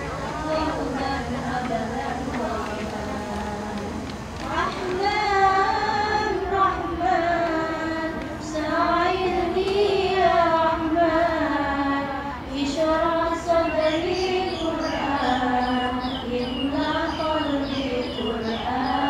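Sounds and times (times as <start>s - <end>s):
girls singing devotional song: 0.0s - 19.0s.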